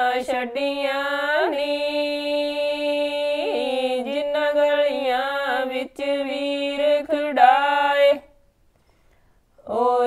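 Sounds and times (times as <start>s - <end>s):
women singing unaccompanied: 0.0s - 8.4s, 9.6s - 10.0s.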